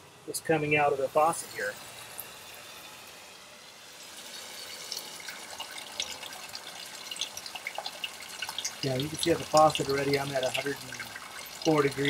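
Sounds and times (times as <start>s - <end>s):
water running into metal tank: 0.9s - 12.0s.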